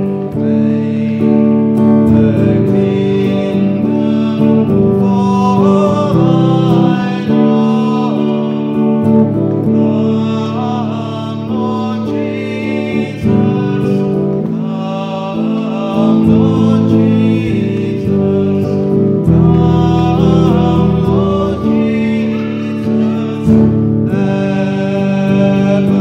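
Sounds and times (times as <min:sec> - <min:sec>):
guitar chords: 0:00.0 - 0:26.0
man singing: 0:00.0 - 0:26.0.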